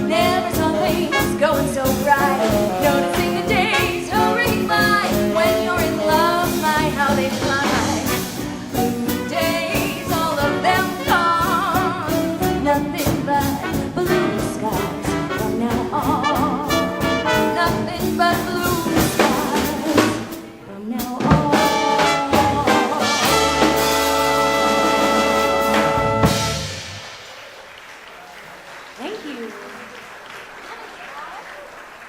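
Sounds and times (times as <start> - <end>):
swing band playing: 0.0 - 28.8.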